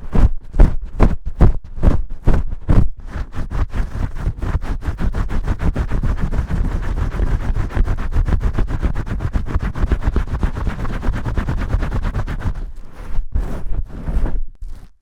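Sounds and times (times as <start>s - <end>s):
shampoo scrubbing against microphone: 0.0s - 15.0s.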